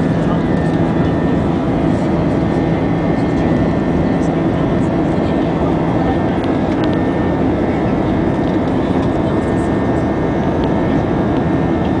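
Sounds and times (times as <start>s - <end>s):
jet engine cabin noise: 0.0s - 12.0s.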